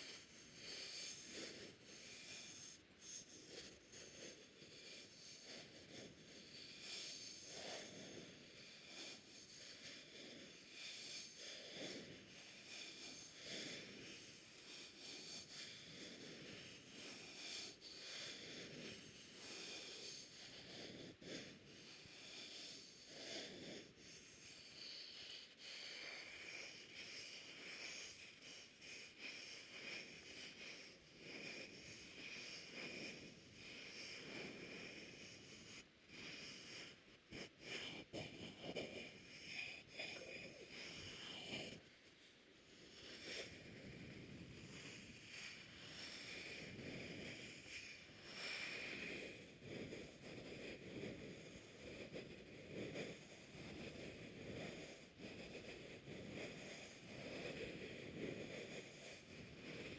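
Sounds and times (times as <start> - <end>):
breathy mouth sounds: 0.0 - 59.9.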